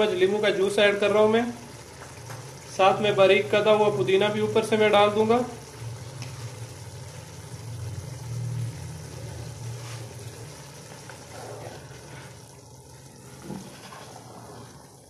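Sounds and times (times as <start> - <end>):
pot of rice cooking: 0.0 - 15.0.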